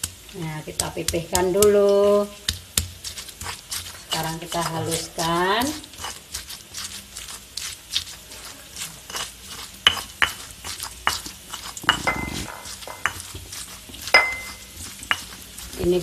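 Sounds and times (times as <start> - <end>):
stone pestle grinding in mortar: 0.0 - 16.0.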